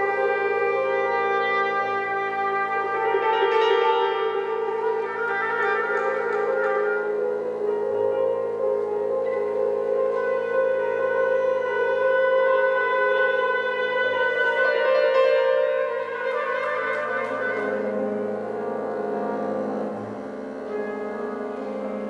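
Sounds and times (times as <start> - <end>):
double bass: 0.0 - 22.0
flute: 0.0 - 22.0
oboe: 0.0 - 22.0
piano: 0.0 - 22.0.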